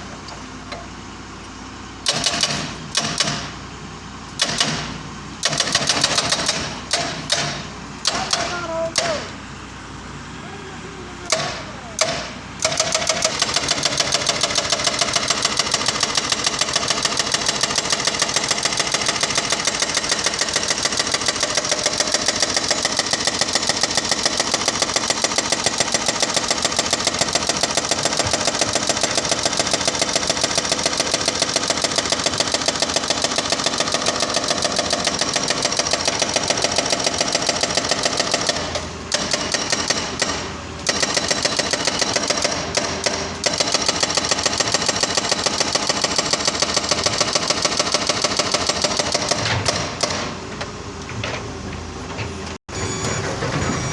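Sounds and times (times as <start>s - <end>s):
excavator engine running: 0.0s - 53.9s
hydraulic breaker hammering concrete: 2.0s - 3.6s, 4.3s - 9.4s, 11.2s - 50.6s.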